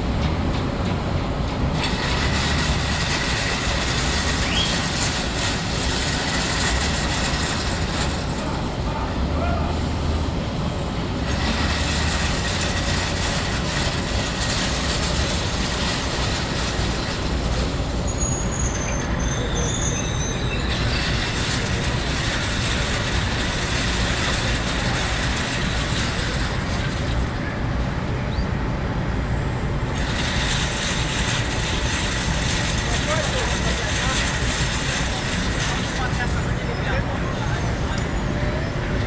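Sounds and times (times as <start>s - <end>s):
industrial machinery rumble and hiss: 0.0s - 39.0s.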